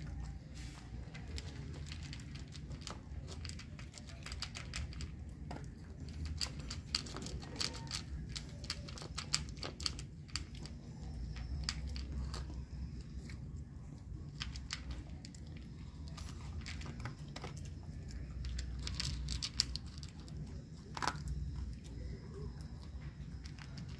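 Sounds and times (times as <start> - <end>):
dog crunching dry kibble: 0.0 - 23.9.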